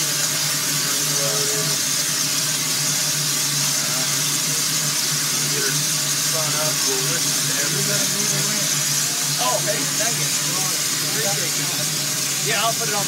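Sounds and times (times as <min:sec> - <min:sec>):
steam engine hissing: 0:00.0 - 0:13.0.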